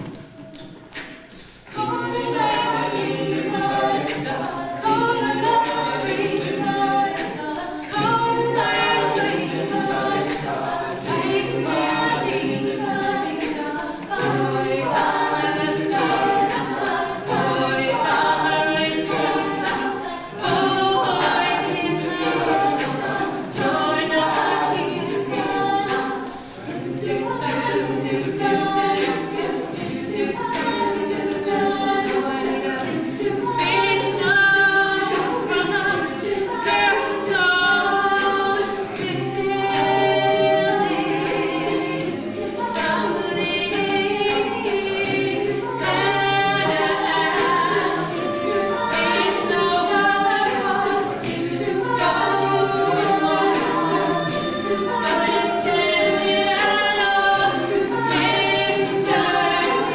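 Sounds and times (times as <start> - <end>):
a cappella group singing: 0.0 - 59.9.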